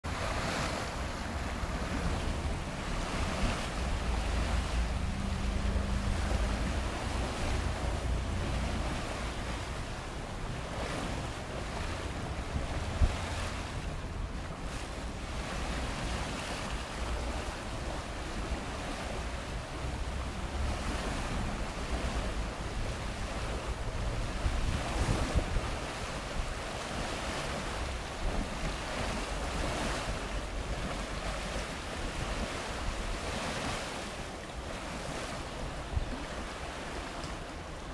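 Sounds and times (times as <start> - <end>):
stream rushing: 0.0 - 37.9
wind on microphone: 0.1 - 37.9.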